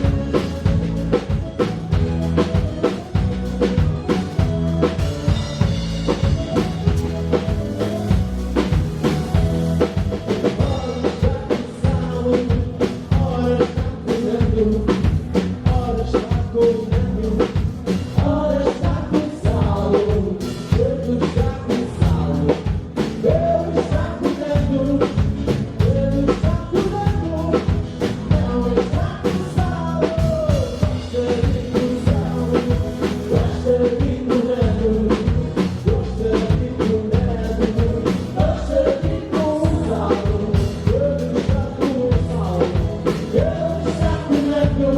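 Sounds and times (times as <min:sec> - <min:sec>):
drum kit beat: 0:00.0 - 0:44.9
live band music: 0:00.0 - 0:44.9
person singing: 0:00.0 - 0:44.9.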